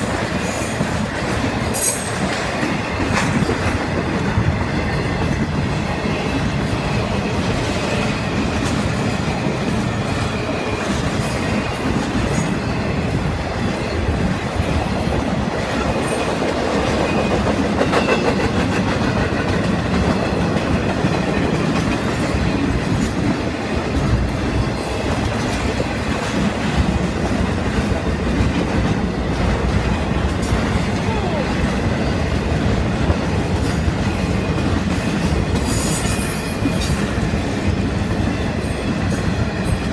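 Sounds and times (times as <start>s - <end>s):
steel wheels clattering on rails: 0.0s - 39.9s.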